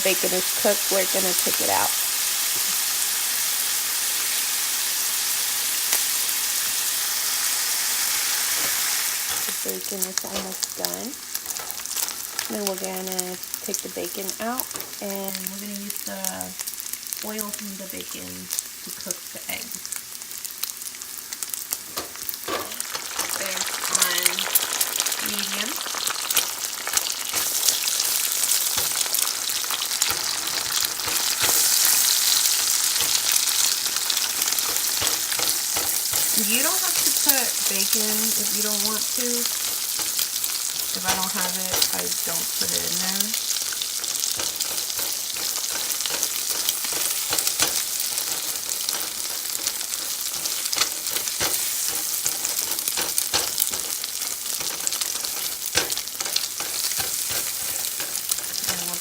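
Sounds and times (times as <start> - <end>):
food sizzling in frying pan: 0.0 - 59.0.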